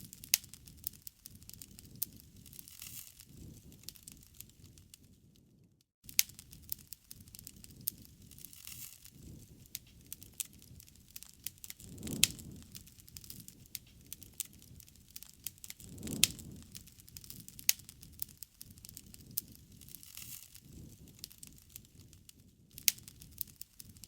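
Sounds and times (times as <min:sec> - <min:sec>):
whoosh of flame: 0:00.0 - 0:24.0
wood fire crackling: 0:00.0 - 0:24.0.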